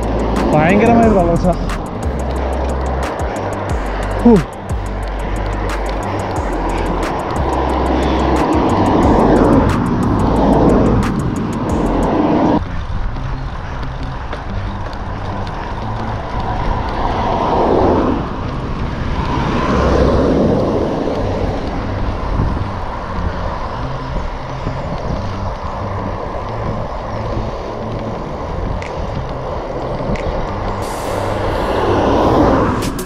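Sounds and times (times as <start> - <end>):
road noise rush: 0.0 - 33.0
vehicles swishing by: 0.0 - 33.0.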